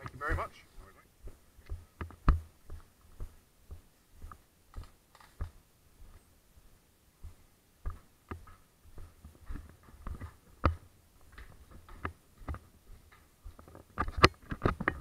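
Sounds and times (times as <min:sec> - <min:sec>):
footsteps on indoor stairs: 0:01.2 - 0:13.7.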